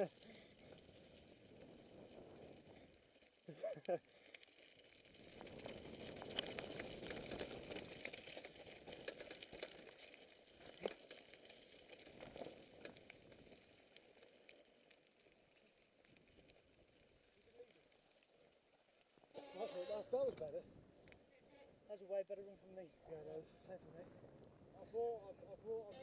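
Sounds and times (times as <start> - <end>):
bike tyres crunching over gravel: 0.0 - 26.0.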